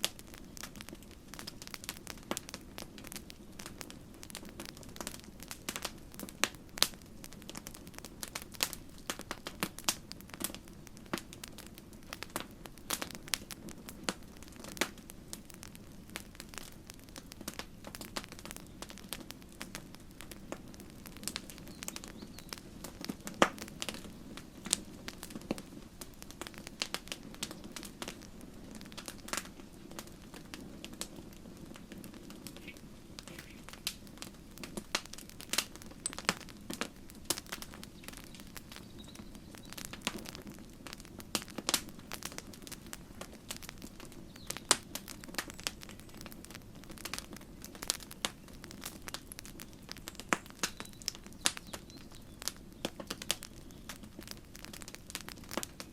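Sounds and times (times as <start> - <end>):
campfire crackling and popping: 0.0 - 55.9
low rush of flames: 0.0 - 55.9.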